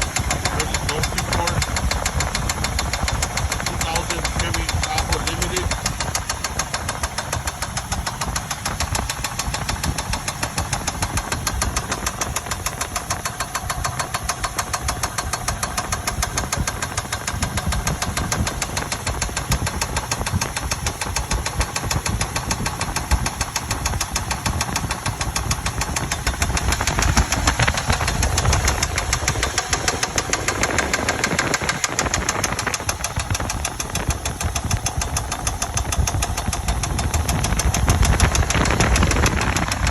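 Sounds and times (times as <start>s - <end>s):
engine running with ticking knock: 0.0s - 39.9s.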